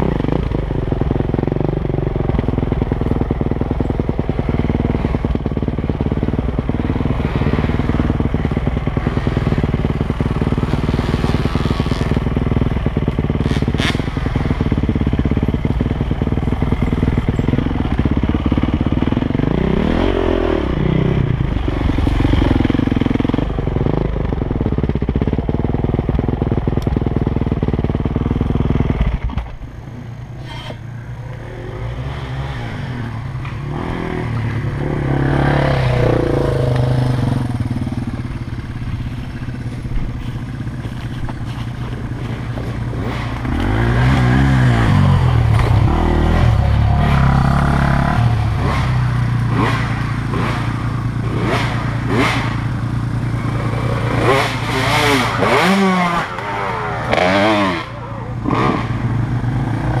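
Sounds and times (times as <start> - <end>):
dirt bike engine running: 0.0 - 60.0
trail bikes revving past: 0.0 - 60.0.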